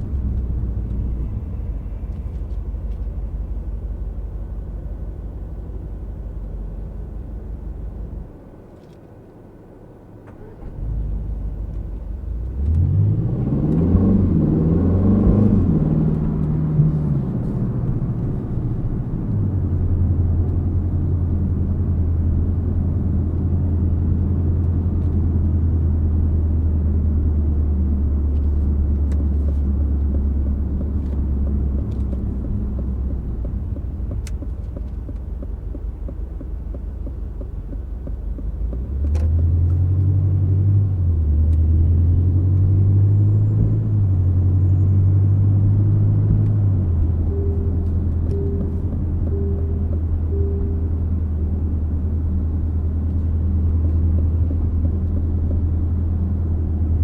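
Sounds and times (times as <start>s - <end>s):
car engine revving: 10.4s - 57.0s.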